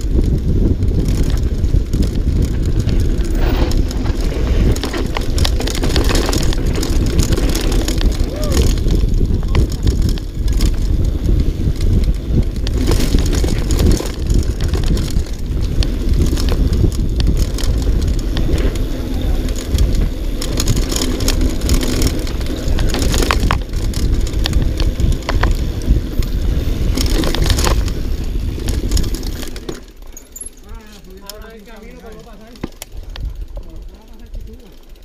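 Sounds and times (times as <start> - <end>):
wind noise on microphone: 0.0 - 30.0, 30.6 - 35.0
bike rattling and clattering: 0.0 - 35.0
tyres rumbling on dirt: 0.0 - 35.0.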